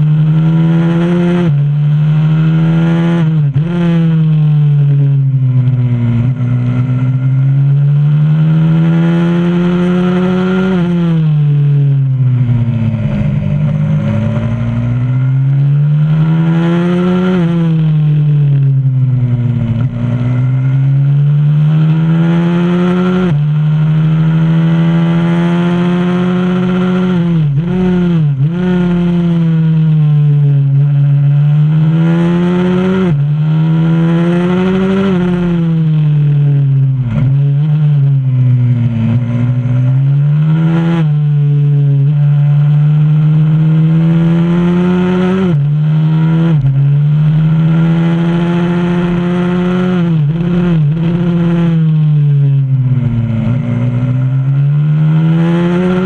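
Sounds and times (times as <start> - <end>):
motorbike engine at full throttle: 0.0 - 56.0.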